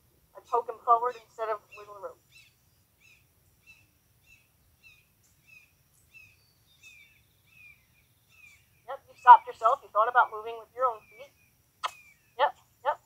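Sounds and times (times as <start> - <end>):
faint bird chirps: 0.4 - 13.0.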